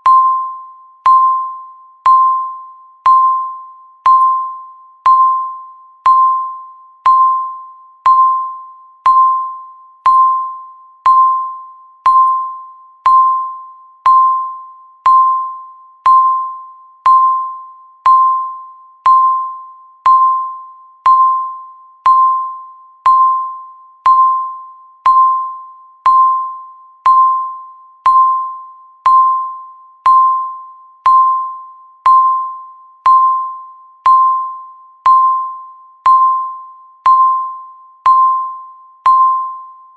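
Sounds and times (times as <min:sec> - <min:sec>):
countdown timer beeping: 0:00.0 - 0:39.7.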